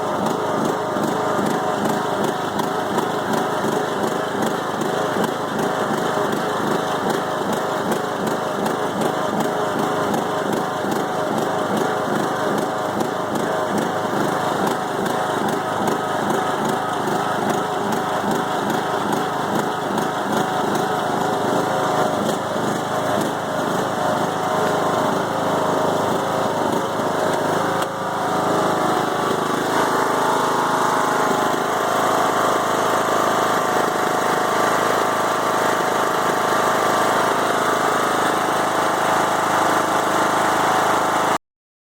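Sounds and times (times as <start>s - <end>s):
riding mower engine idling roughly: 0.0s - 41.4s.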